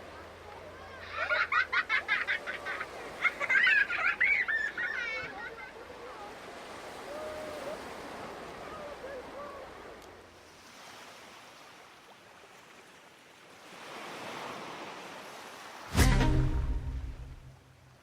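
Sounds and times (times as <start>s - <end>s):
sea surf washing on beach: 0.0s - 18.0s.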